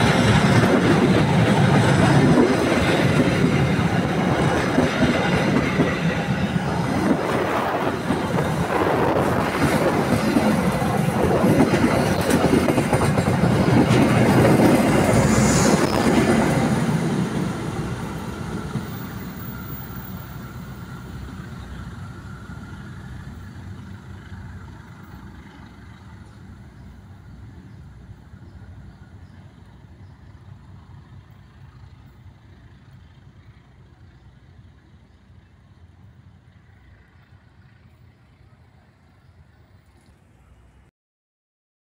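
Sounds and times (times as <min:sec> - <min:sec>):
train wheels rumbling on rails: 0:00.0 - 0:40.6.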